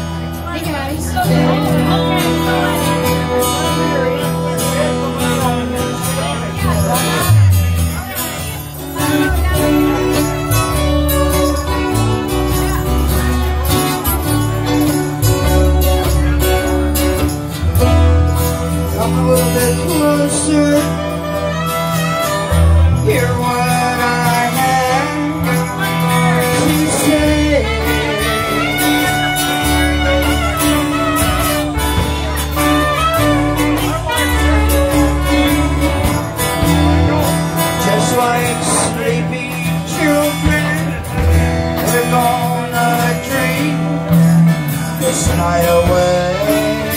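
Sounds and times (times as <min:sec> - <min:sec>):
guitars strummed: 0:00.0 - 0:46.9.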